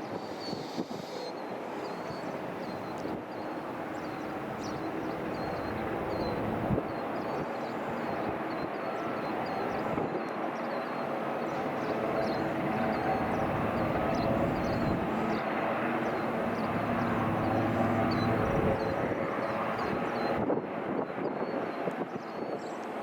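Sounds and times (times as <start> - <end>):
helicopter turbines and rotor: 0.0 - 23.0.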